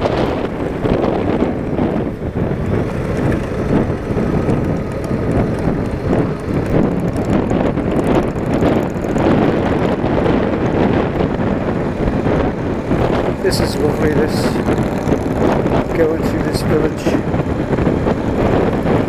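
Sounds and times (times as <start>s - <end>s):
motorcycle engine running: 0.0s - 19.0s
road noise: 0.0s - 19.0s
wind buffeting microphone: 0.0s - 19.0s.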